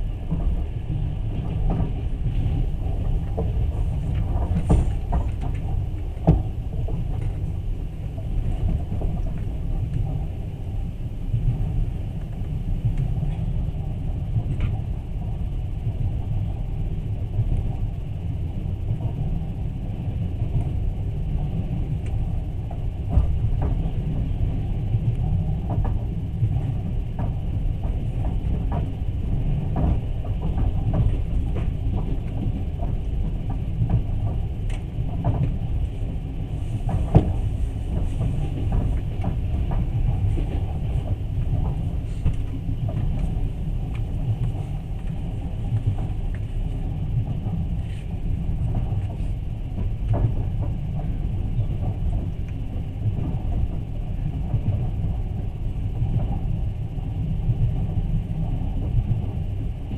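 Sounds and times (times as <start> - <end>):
train rumble from inside carriage: 0.0 - 59.9.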